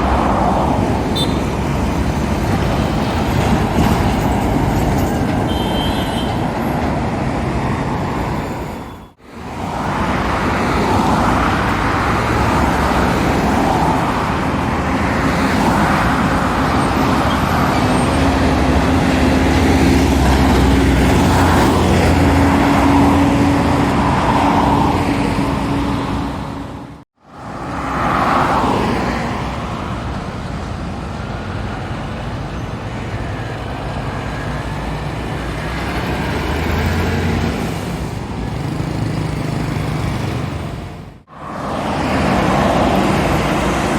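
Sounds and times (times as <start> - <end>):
heavy trucks passing: 0.0 - 43.9
passing traffic: 0.0 - 43.9.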